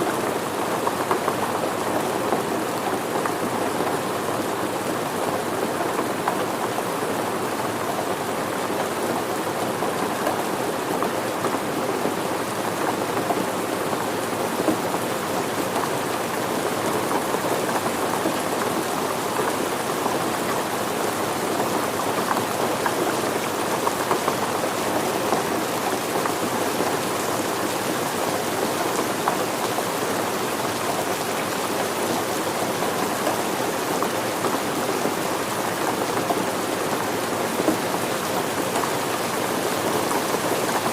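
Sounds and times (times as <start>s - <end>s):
steady rain on surfaces: 0.0s - 40.9s.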